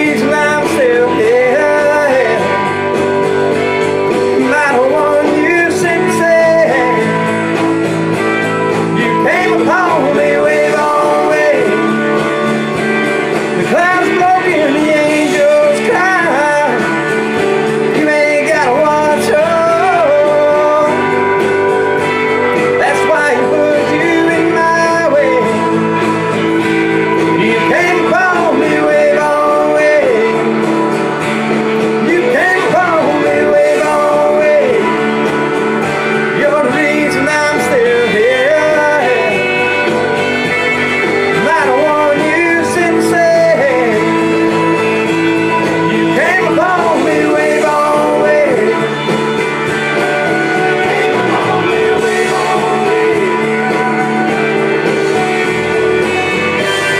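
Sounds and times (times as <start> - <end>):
man singing: 0.0 - 56.9
strummed acoustic guitar: 0.0 - 56.9.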